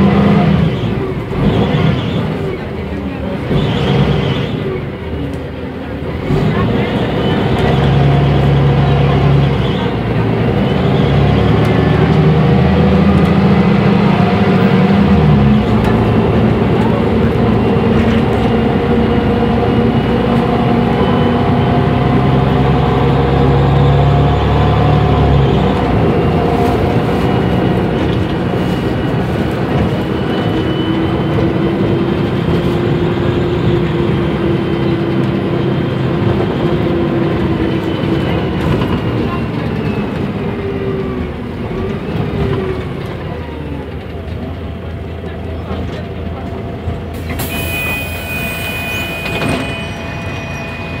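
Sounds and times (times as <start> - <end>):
bus engine deep drone: 0.0 - 51.0.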